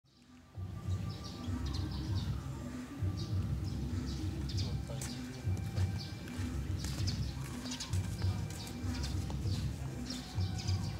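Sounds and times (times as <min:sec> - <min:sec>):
music with low pulsing beat: 0:00.1 - 0:10.9.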